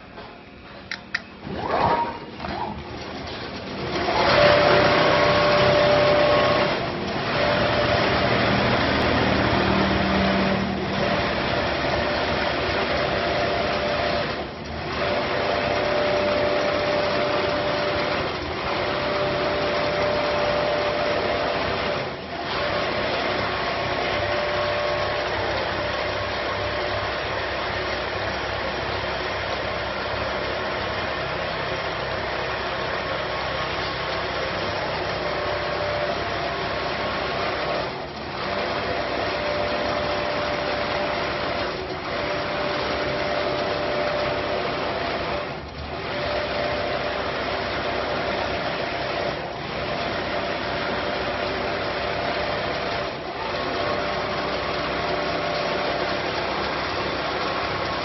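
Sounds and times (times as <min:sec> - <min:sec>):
quilting machine whirring: 0:00.0 - 0:58.0.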